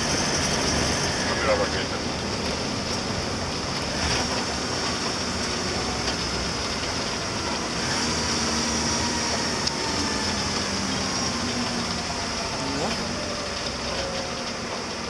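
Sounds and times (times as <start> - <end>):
bus engine drone: 0.0 - 15.0
tyres rumbling on gravel: 0.0 - 15.0.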